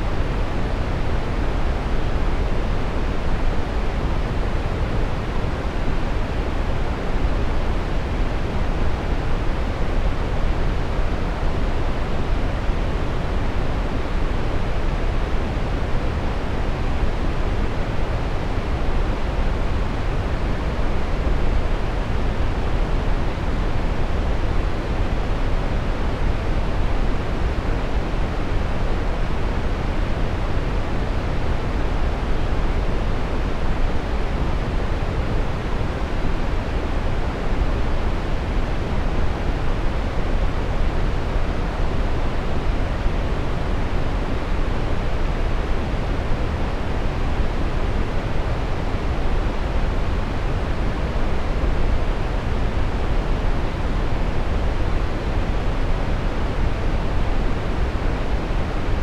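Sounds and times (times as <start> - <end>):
brown noise: 0.0 - 59.0.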